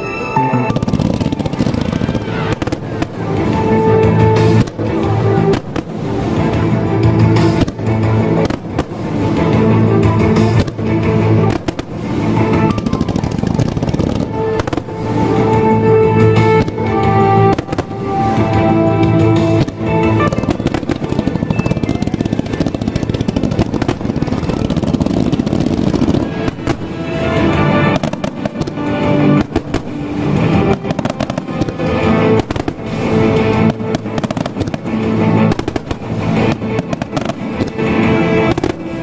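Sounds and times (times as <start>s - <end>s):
fireworks bursting with crackling: 0.0s - 39.0s
music with steady melody: 0.0s - 39.0s.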